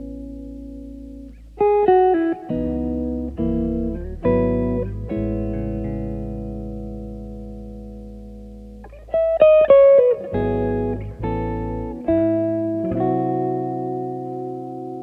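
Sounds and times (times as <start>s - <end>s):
electric guitar playing: 0.0s - 15.0s.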